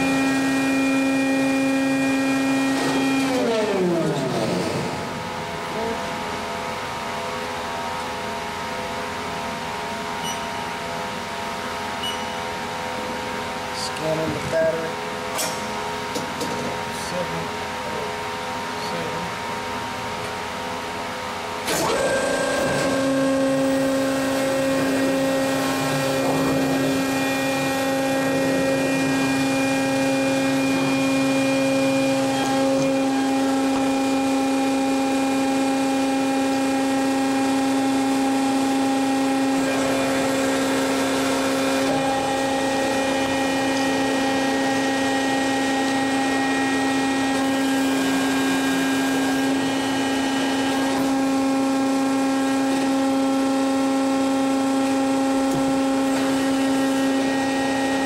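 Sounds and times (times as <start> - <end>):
machine electric hum: 0.0 - 58.0.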